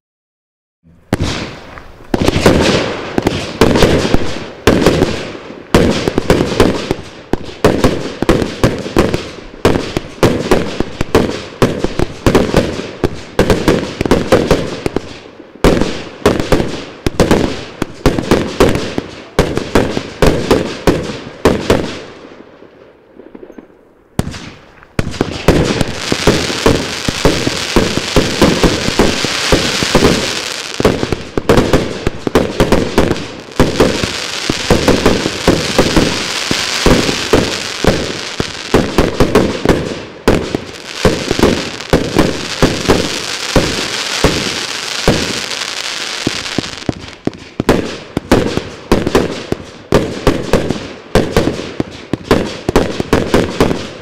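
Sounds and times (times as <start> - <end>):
fireworks crackling hiss: 0.9 - 20.9, 24.2 - 54.0
fireworks shots and bursts: 0.9 - 54.0.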